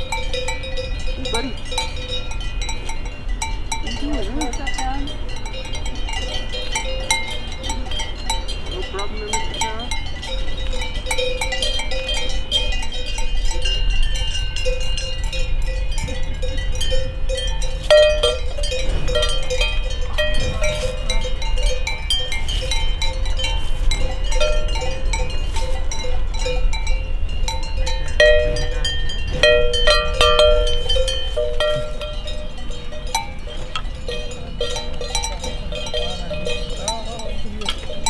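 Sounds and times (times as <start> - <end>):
cowbells clanking: 0.0 - 38.0.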